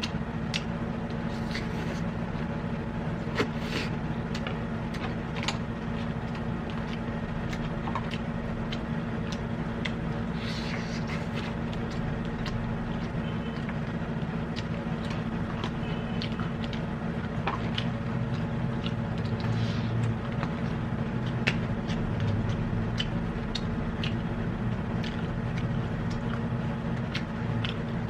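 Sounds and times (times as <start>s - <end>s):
chewing and food crunches: 0.0s - 28.0s
steady low hum: 0.0s - 28.0s.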